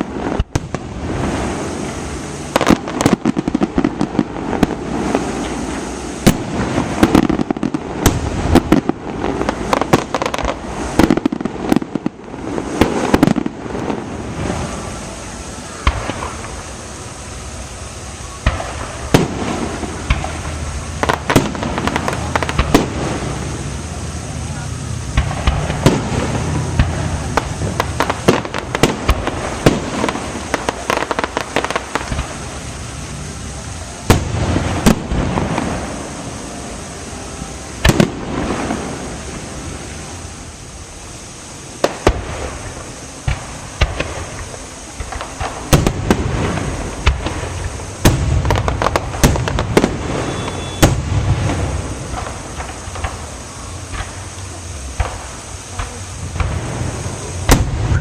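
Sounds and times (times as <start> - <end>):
firework shells bursting: 0.0 - 58.0
fireworks crackling: 0.0 - 58.0
echoing rumble: 10.5 - 58.0.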